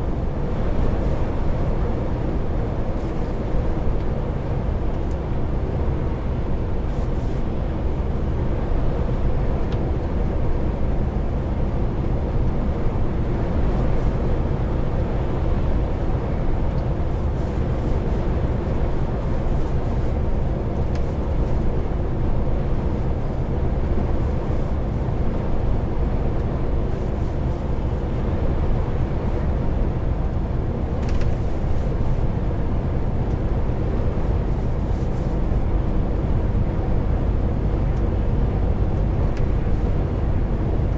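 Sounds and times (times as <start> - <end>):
diesel truck engine drone: 0.0 - 40.9
road noise: 0.0 - 40.9.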